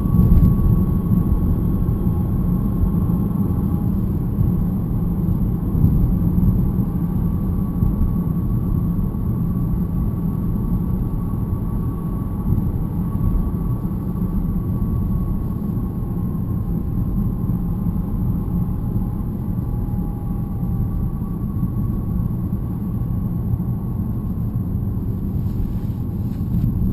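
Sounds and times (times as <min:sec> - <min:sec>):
road and drivetrain rumble: 0:00.0 - 0:26.9.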